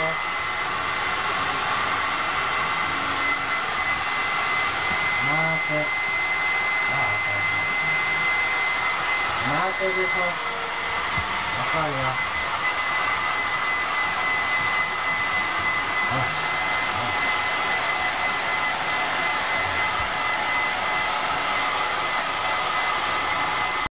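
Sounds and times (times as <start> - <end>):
hair dryer running: 0.0 - 23.9.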